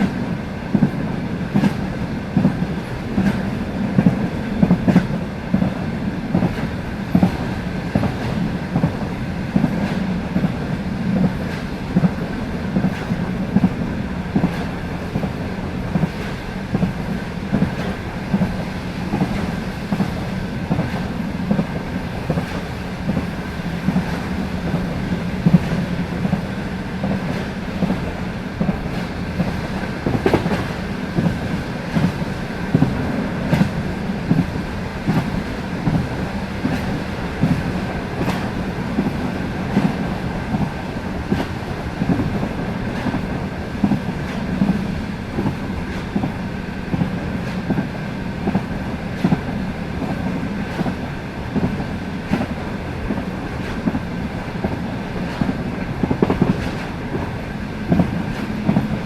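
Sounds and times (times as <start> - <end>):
rumble of moving train coach: 0.0 - 59.0
train wheels clickety-clack: 0.0 - 59.0.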